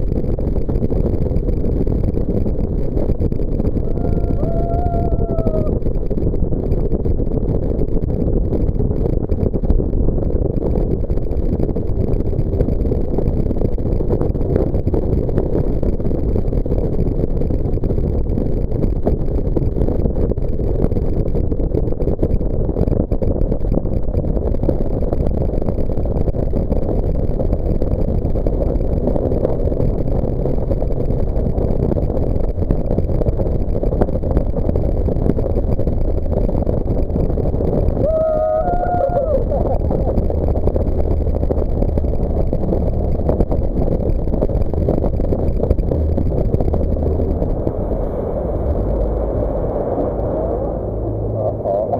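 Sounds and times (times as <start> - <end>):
boat engine rumbling: 0.0 - 51.9.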